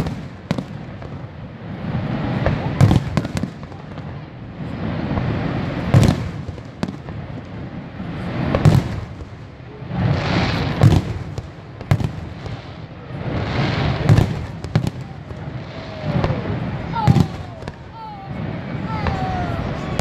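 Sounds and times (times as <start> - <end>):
fireworks booming: 0.0 - 20.0
fireworks crackling: 0.0 - 20.0.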